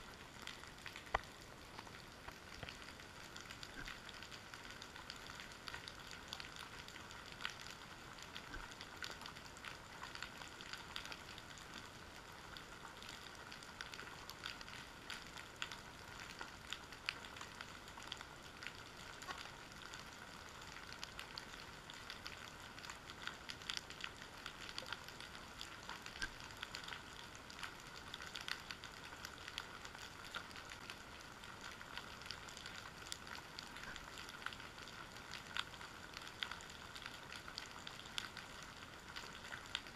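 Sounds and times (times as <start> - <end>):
underwater crackle of tiny clicks: 0.0 - 39.9.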